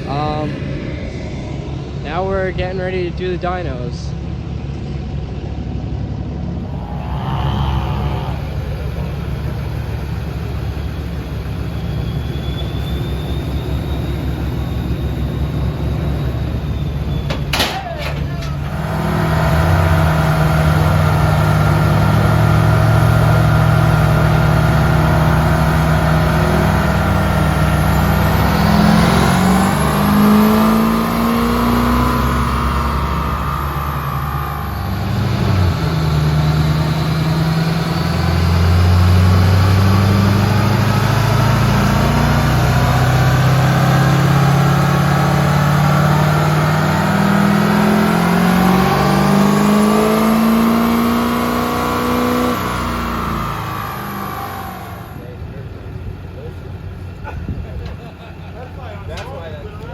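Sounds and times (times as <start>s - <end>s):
diesel truck engine under load: 0.0s - 59.9s.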